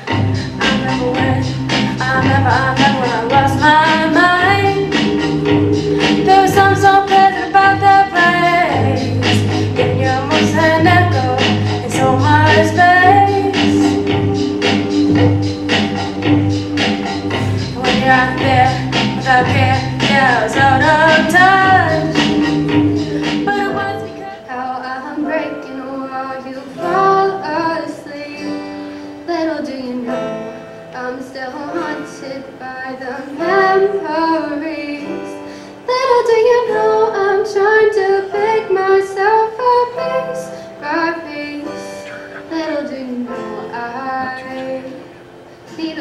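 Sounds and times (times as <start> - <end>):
acoustic guitar: 0.0 - 46.0
digital piano: 0.0 - 46.0
person singing: 0.0 - 46.0.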